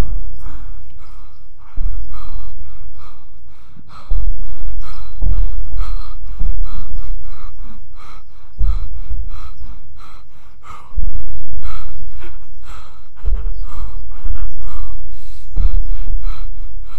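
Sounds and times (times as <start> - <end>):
rhythmic gasping breaths: 0.0 - 16.9.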